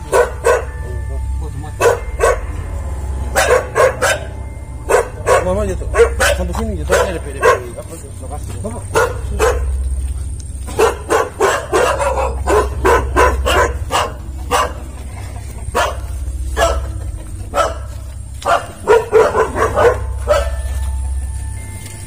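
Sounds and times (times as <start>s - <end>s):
dogs barking: 0.0s - 22.0s
low steady rumble: 0.0s - 22.0s.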